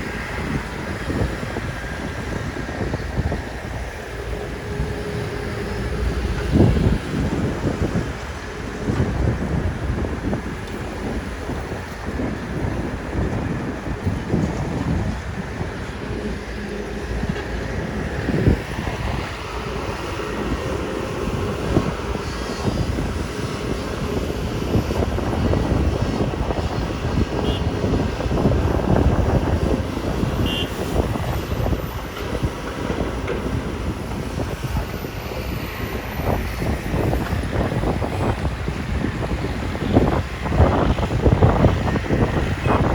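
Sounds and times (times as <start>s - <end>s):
excavator diesel engine drone: 0.0s - 42.9s.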